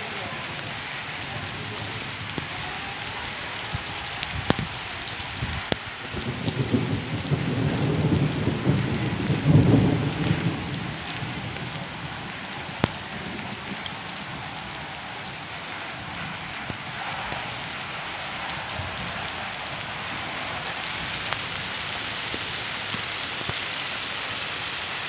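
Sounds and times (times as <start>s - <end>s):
steady rain on rooftop: 0.0s - 25.0s.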